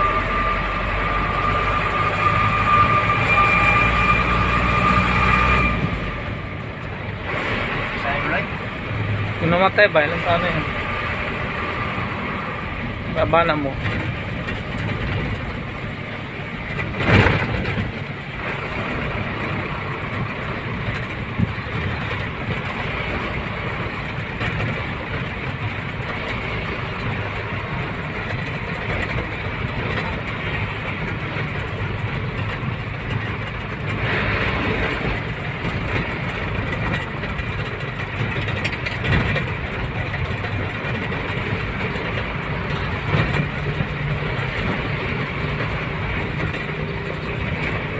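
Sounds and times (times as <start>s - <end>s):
truck engine and road noise: 0.0s - 47.9s.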